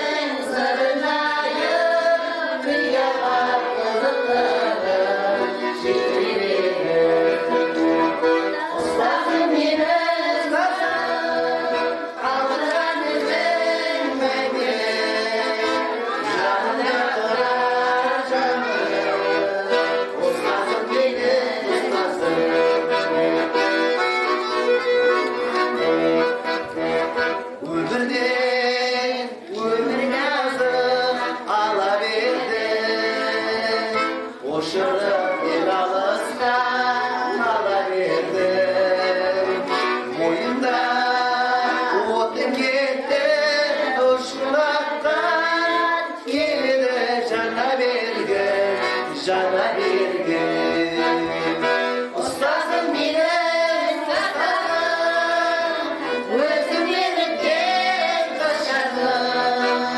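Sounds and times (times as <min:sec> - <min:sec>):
women singing: 0:00.0 - 0:23.0, 0:27.7 - 0:59.9
accordion playing: 0:00.0 - 0:59.9.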